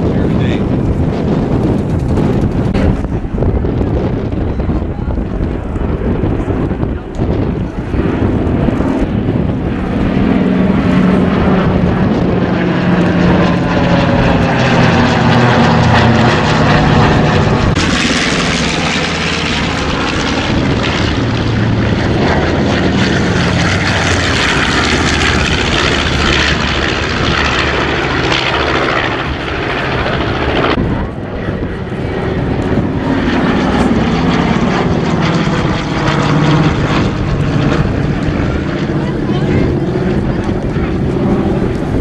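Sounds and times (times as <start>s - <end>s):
propeller planes flying over: 0.0s - 42.0s.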